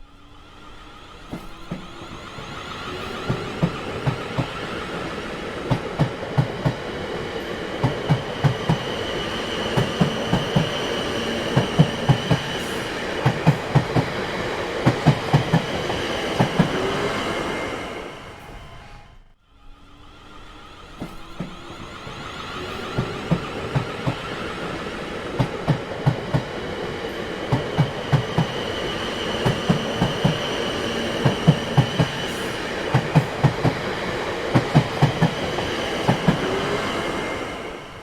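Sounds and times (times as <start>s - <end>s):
train rumble: 0.0s - 38.0s
train wheels clacking on rail joints: 1.2s - 17.3s, 20.8s - 37.8s.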